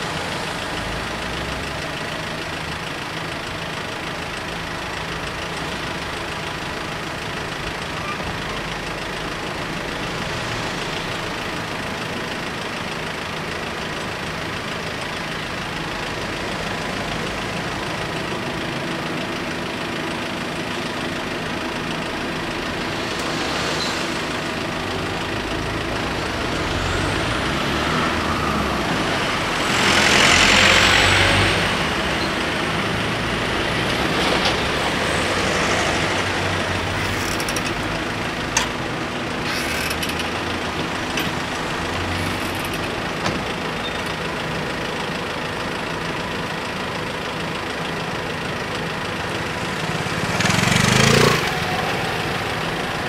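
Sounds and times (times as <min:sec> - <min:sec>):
vehicle engines idling: 0:00.0 - 0:53.0.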